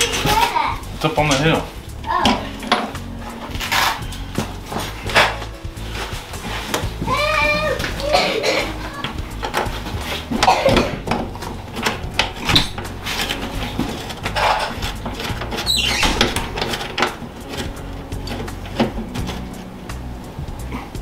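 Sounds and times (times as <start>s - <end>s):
metal parts knocking and clanking: 0.0s - 7.1s, 7.7s - 19.6s.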